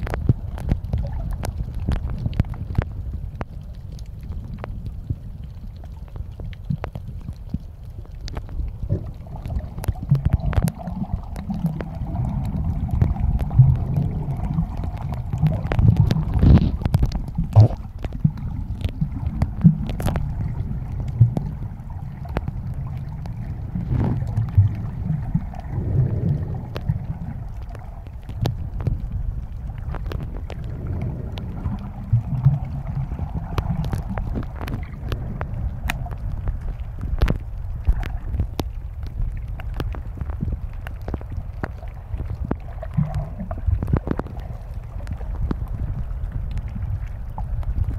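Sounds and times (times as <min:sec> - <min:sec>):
sharp clicks and crackles: 0:00.0 - 0:47.9
underwater water rumble: 0:00.0 - 0:47.9.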